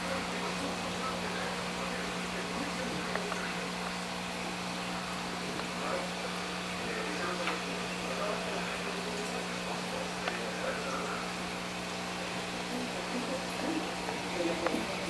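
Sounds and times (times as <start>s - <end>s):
aquarium pump humming: 0.0s - 15.0s.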